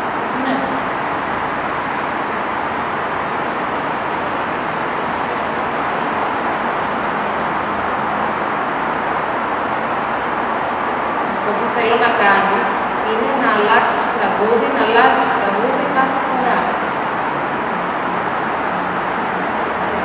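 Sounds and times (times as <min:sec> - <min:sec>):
car road noise: 0:00.0 - 0:13.1, 0:14.0 - 0:20.0.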